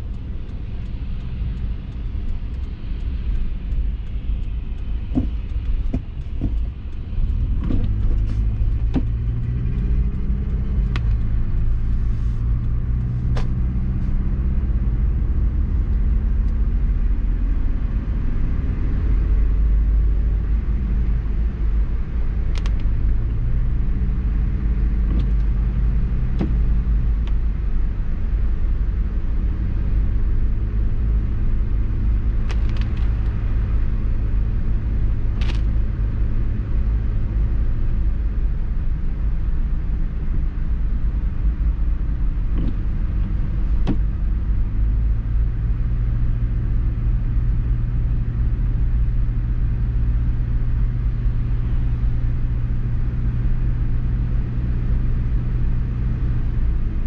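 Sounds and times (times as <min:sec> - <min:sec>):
car engine hum: 0:00.0 - 0:57.0
tire and road rumble: 0:00.0 - 0:57.0.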